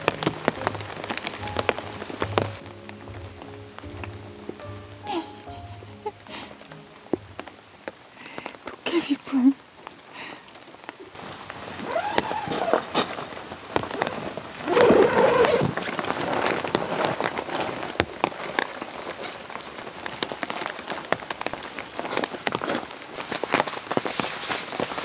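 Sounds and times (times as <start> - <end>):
heavy rain on tent fabric: 0.0 - 25.0.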